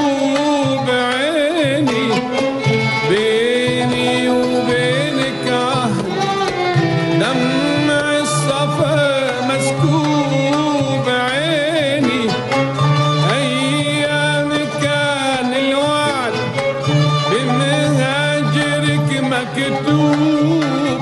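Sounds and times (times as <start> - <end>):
middle eastern song: 0.0 - 21.0.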